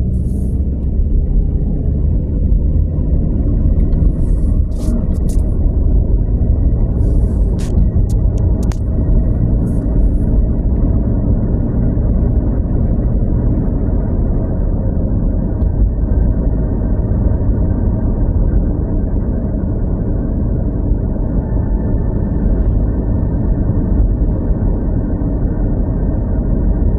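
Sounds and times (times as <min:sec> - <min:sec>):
vehicle road and engine noise: 0:00.0 - 0:26.9.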